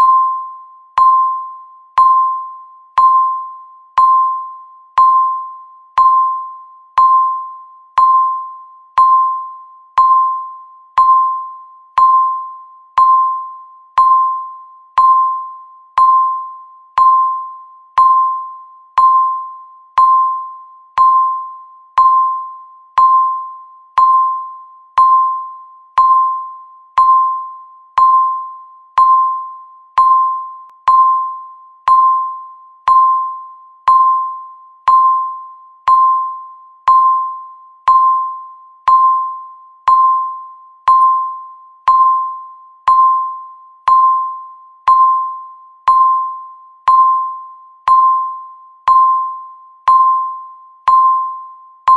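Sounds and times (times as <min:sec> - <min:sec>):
countdown timer beeps: 0:00.0 - 0:51.9.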